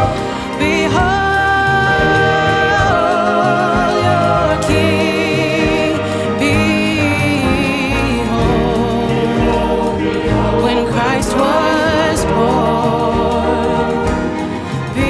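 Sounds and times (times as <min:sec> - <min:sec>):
choir singing gospel music: 0:00.0 - 0:15.0
instrumental accompaniment: 0:00.0 - 0:15.0.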